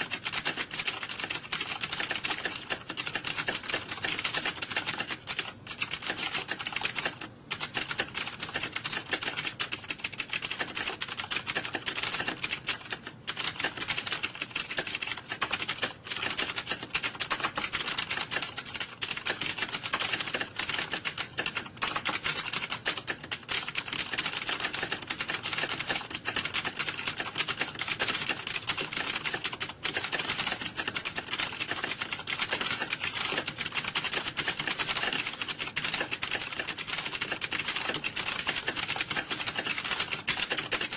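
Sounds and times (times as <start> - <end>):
many keyboards clattering: 0.0 - 40.9.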